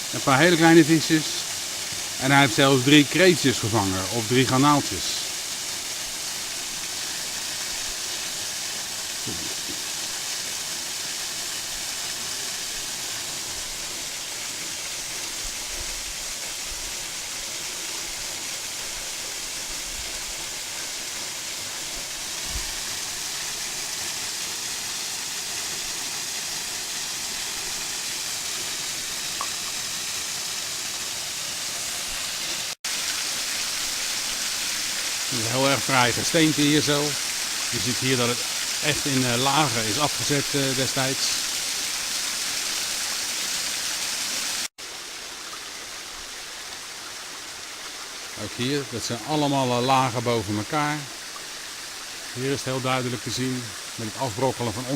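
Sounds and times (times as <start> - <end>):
waterfall rushing: 0.0 - 44.7, 45.9 - 54.9.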